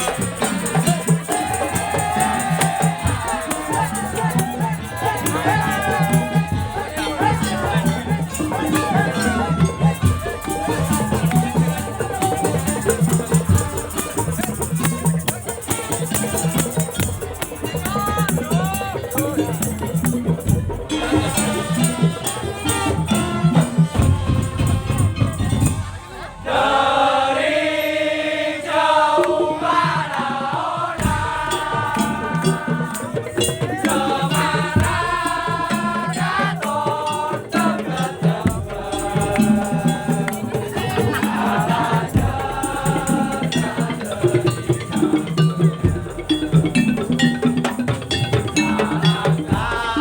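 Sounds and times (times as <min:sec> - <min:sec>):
rattling percussion and drums: 0:00.0 - 0:50.0.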